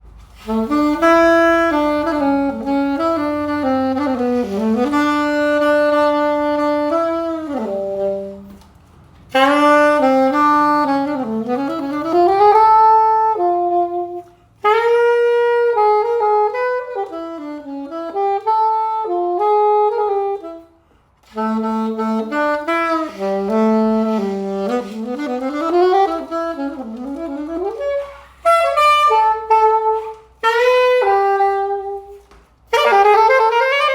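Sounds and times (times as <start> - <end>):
clarinet melodic phrases: 0.3 - 8.7, 9.3 - 33.9.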